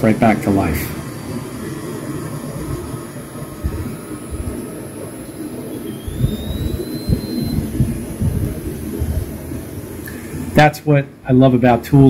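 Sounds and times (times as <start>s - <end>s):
cloth rubbing on spinning nozzle: 0.0s - 10.6s
faint high whine: 0.0s - 12.0s.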